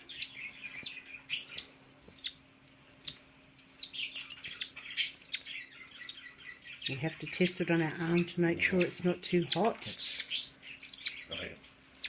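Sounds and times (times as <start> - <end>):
budgerigar chick begging calls: 0.0 - 12.0.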